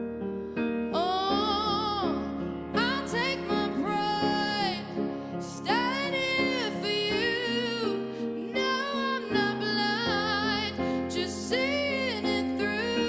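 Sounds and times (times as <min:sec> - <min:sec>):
woman singing a slow ballad: 0:00.8 - 0:13.0.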